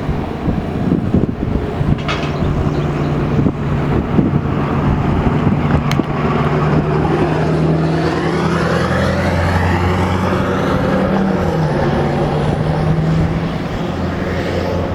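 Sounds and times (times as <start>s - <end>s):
diesel engines humming: 0.0s - 14.9s
rushing sound of passing vehicle: 0.0s - 14.9s.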